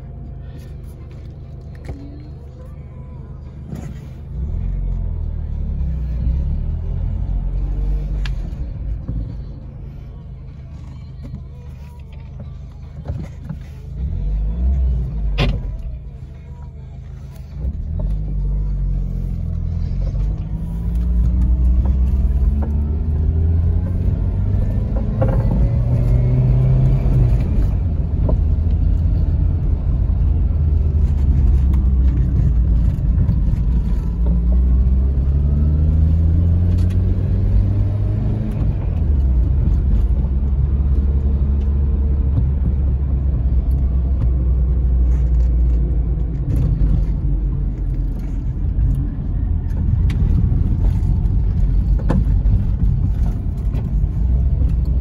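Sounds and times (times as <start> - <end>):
car engine rumbling from cabin: 0.0 - 55.0.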